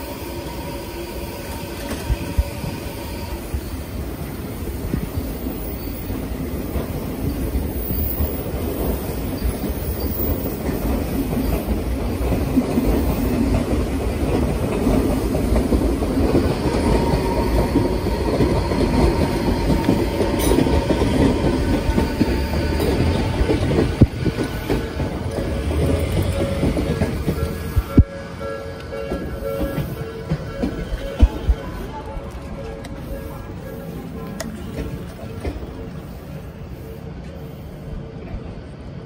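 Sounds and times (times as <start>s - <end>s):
train wheels clattering over rails: 1.8s - 36.2s.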